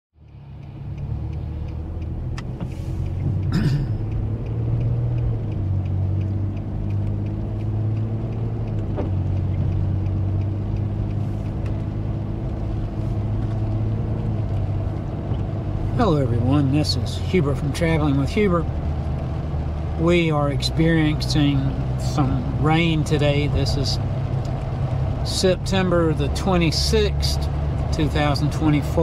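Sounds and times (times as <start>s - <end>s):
car engine and tyres on wet road: 0.2s - 29.0s.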